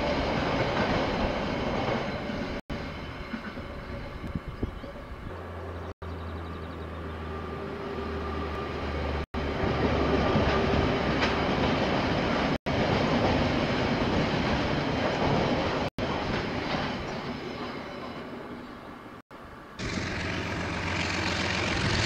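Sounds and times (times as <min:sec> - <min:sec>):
diesel locomotive engine hum: 0:00.0 - 0:16.8, 0:17.5 - 0:22.0
train wagons rumbling over rails: 0:00.0 - 0:19.1, 0:19.8 - 0:22.0.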